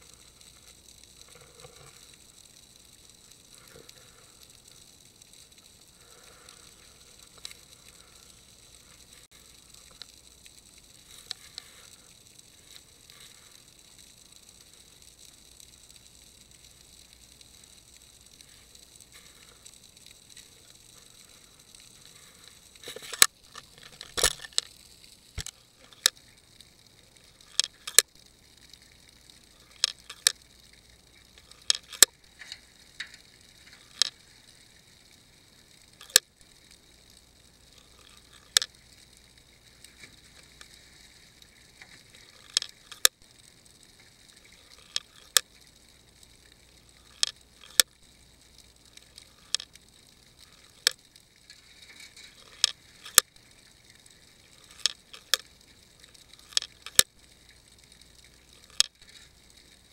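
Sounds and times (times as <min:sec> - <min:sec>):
faint underwater hiss: 0:00.0 - 0:59.9
sharp underwater clicks: 0:00.0 - 0:59.9.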